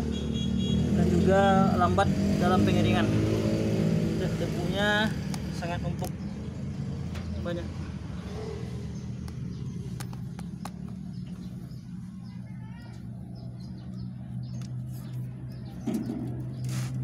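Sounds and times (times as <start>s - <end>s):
low motor drone: 2.6s - 17.0s.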